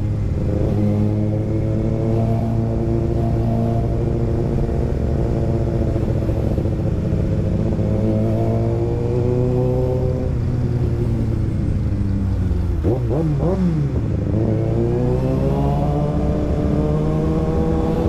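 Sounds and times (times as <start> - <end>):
motorcycle engine revving: 0.0 - 11.6, 12.5 - 18.0.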